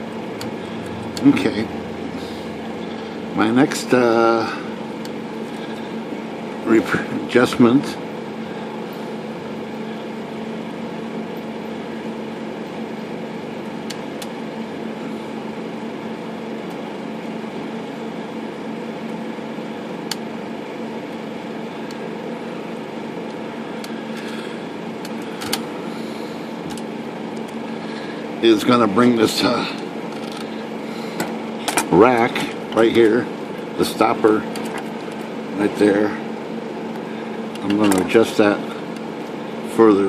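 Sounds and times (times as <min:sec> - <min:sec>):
steady mechanical hum: 0:00.0 - 0:40.0.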